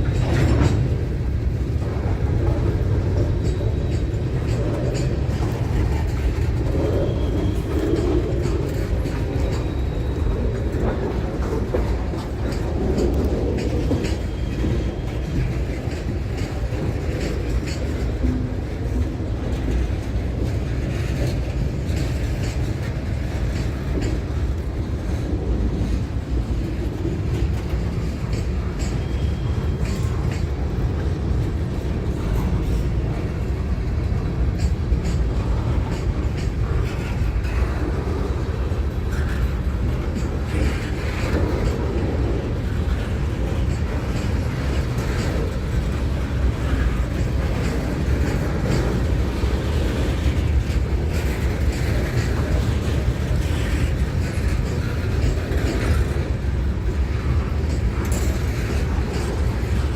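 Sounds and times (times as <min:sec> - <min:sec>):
train low rumble: 0:00.0 - 0:59.9
train wheels clicking over rail joints: 0:00.0 - 0:59.9.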